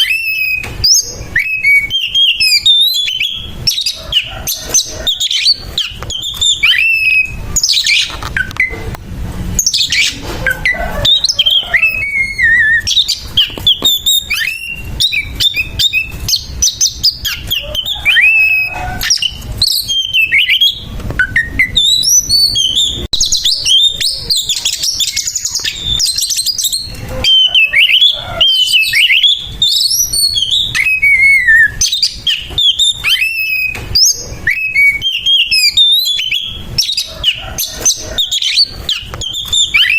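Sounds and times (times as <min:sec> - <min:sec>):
bird singing harsh song: 0:00.0 - 0:39.9.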